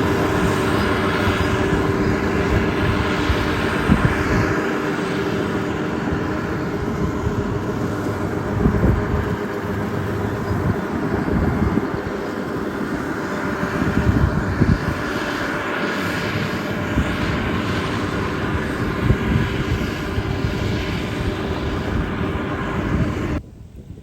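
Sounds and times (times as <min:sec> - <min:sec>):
combine harvester engine drone: 0:00.0 - 0:23.5.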